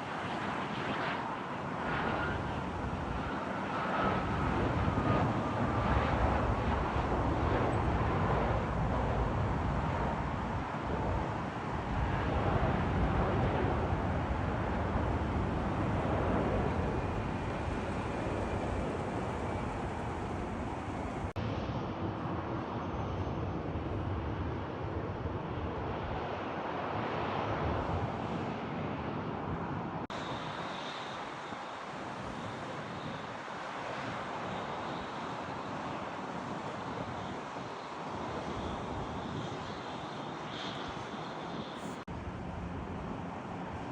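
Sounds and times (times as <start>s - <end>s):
jet airliner engines: 0.0s - 43.9s.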